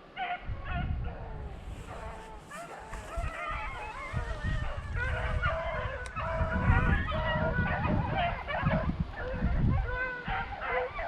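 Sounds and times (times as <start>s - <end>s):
hounds baying: 0.1s - 11.0s.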